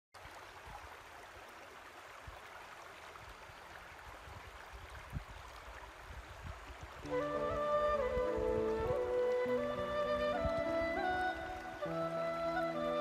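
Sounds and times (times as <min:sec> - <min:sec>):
stream babbling over stones: 0:00.2 - 0:13.0.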